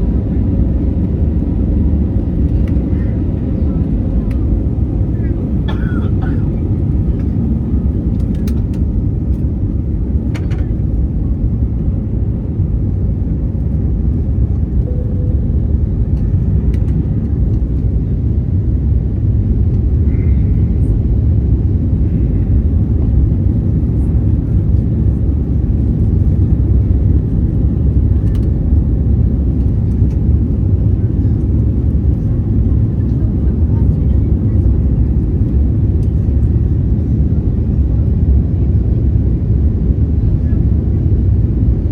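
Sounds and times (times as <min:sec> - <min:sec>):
airplane engines and airflow rumble: 0:00.0 - 0:41.9.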